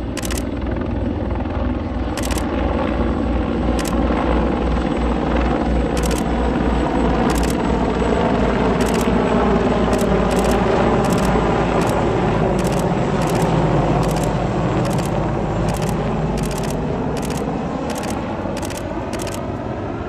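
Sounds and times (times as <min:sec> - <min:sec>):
helicopter rotor beat: 0:00.0 - 0:20.0
turbine whine: 0:00.0 - 0:20.0.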